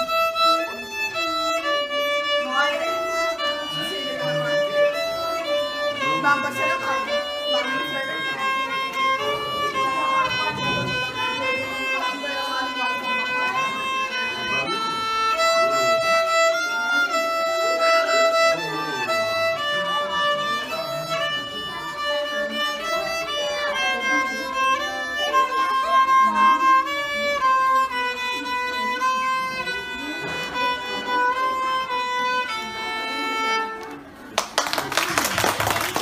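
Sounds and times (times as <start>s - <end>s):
solo violin melody: 0.0s - 34.2s.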